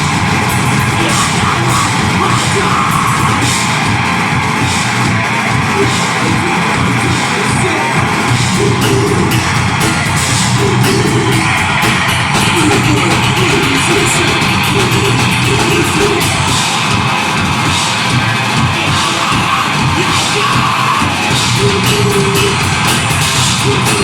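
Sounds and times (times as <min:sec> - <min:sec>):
distorted guitars and bass: 0:00.0 - 0:24.0
drums with rapid cymbal hits: 0:00.0 - 0:24.0.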